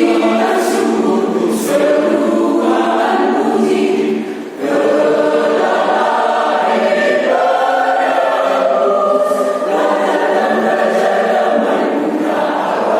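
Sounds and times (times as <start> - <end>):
choir singing in harmony: 0.0 - 12.9.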